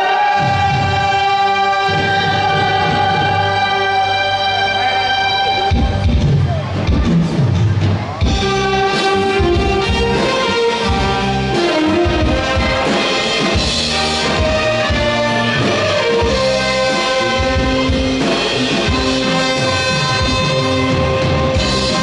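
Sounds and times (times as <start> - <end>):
trumpet and trombone melody: 0.0 - 6.1, 8.3 - 22.0
band accompaniment: 0.0 - 22.0.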